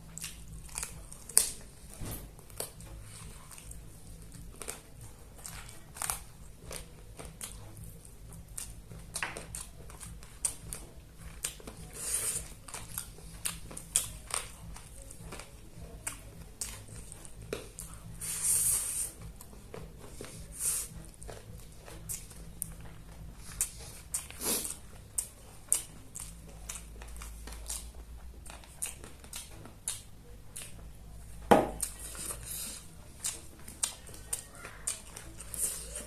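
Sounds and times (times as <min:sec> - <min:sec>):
person chewing and biting: 0:00.0 - 0:36.0.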